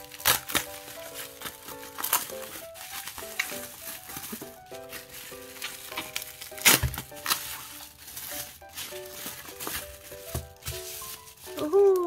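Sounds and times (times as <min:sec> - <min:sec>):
background music: 0:00.0 - 0:12.0
bubble wrap and plastic crinkling: 0:00.0 - 0:12.0.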